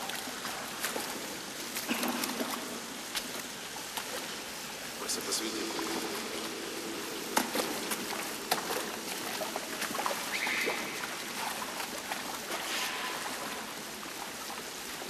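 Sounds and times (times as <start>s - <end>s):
boots sloshing through water: 0.0s - 15.0s
water trickling: 0.0s - 15.0s.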